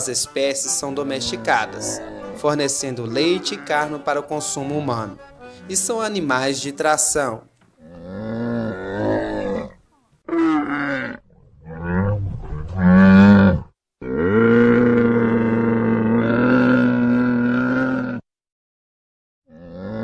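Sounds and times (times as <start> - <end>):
camel calling: 0.0 - 6.1, 7.8 - 18.2.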